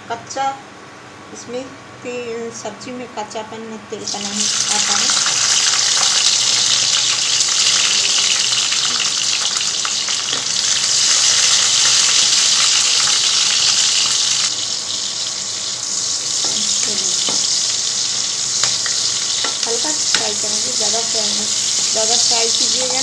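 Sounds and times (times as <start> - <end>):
peppers sizzling in hot oil: 4.0 - 23.0.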